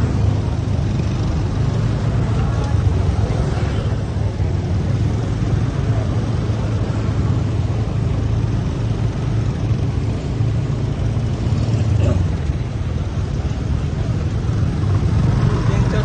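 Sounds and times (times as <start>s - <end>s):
vehicle engine droning: 0.0s - 16.0s
wind and road noise: 0.0s - 16.0s.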